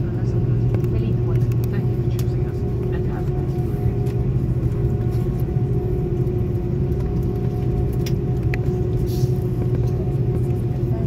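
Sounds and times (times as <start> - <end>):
jet cabin rumble: 0.0 - 11.0
steady hum: 0.0 - 11.0.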